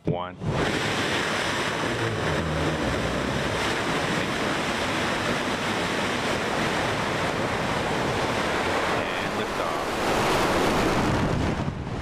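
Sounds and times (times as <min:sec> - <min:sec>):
rocket engine roaring: 0:00.3 - 0:12.0.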